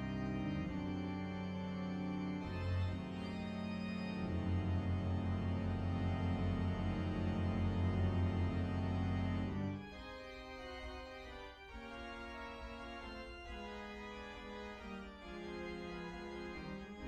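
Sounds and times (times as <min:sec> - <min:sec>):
organ music: 0:00.0 - 0:17.0.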